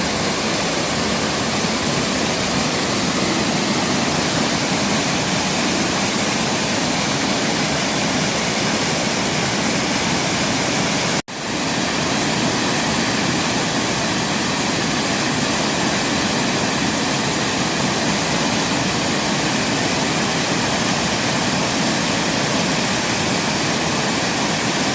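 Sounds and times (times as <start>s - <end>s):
waterfall roaring: 0.0s - 24.9s.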